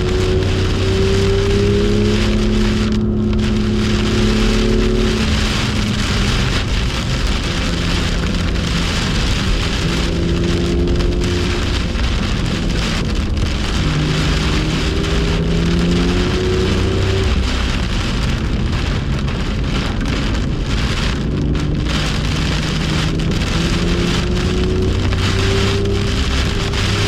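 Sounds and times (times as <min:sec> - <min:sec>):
car engine accelerating: 0:00.0 - 0:27.0
heavy rain: 0:00.0 - 0:27.0
wet tyres rushing: 0:00.0 - 0:27.0.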